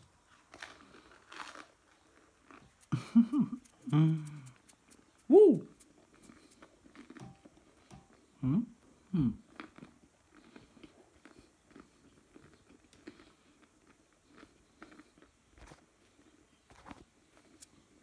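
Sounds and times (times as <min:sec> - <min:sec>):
chewing crunchy food: 0:00.0 - 0:18.0.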